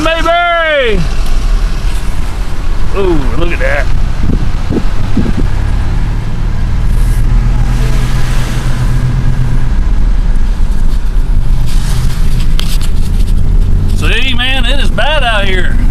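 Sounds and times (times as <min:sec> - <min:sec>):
car engine and road drone: 0:00.0 - 0:15.9.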